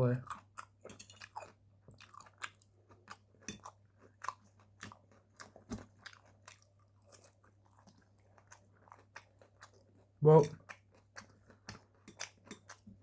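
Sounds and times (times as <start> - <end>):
crunchy chewing of chips: 0.2 - 13.0.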